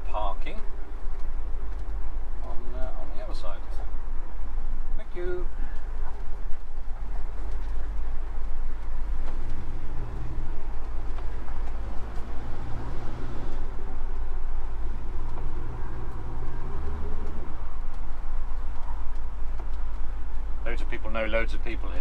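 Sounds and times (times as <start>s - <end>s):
car engine running at low speed: 0.1s - 22.0s.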